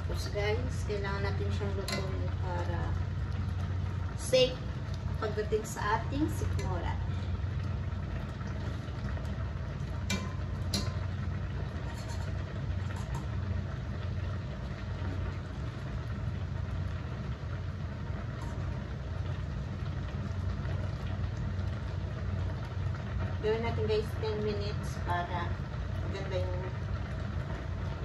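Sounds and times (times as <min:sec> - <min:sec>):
steady low hum: 0:00.0 - 0:28.0
water boiling in a pot: 0:00.0 - 0:28.0.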